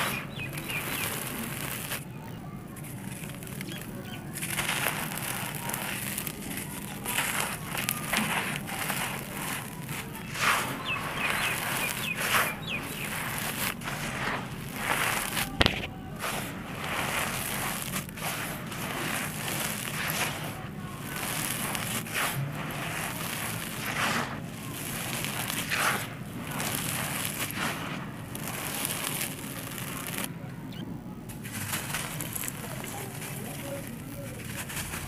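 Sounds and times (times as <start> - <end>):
dirt crumbling and scraping: 0.0 - 35.0.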